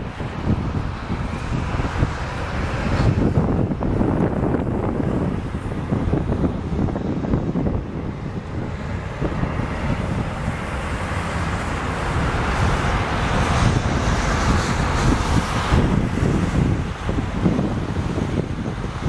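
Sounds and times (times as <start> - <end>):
jet engine noise: 0.0 - 19.0
wind buffeting microphone: 0.0 - 19.0.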